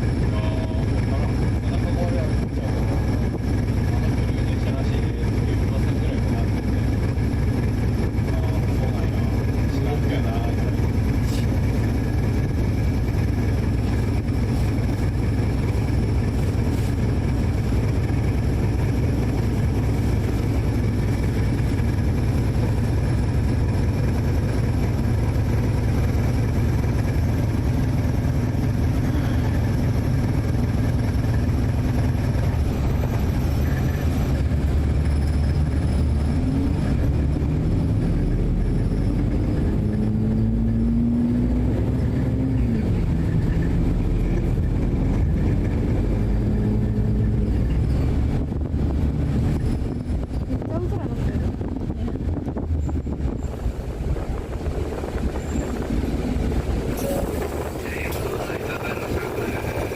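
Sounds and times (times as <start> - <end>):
vehicle engine and road rumble: 0.0 - 59.9.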